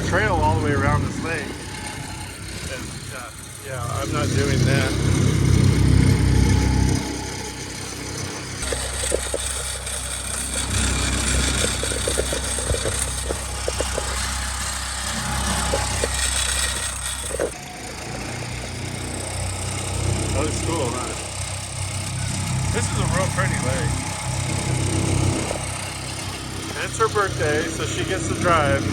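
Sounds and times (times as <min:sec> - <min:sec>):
outboard motor running: 0:00.0 - 0:28.9.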